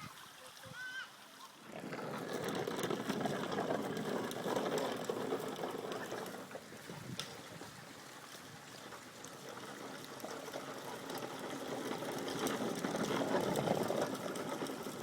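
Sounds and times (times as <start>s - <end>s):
bicycle tyre and road noise: 1.4s - 15.0s
rapid fine clicking rattle: 1.8s - 7.7s, 8.3s - 15.0s.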